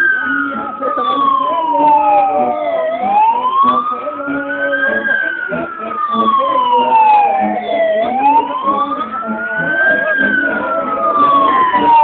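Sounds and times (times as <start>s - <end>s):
emergency siren wailing: 0.0s - 12.0s.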